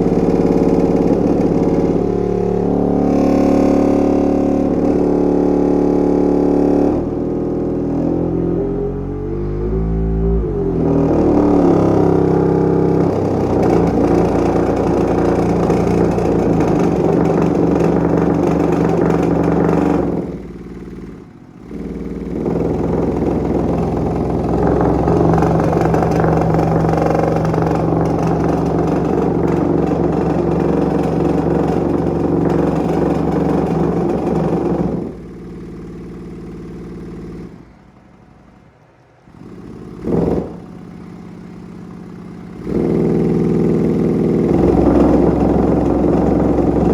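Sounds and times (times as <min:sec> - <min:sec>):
distorted subwoofer drone: 0:00.0 - 0:21.1, 0:21.7 - 0:35.4, 0:42.5 - 0:46.9.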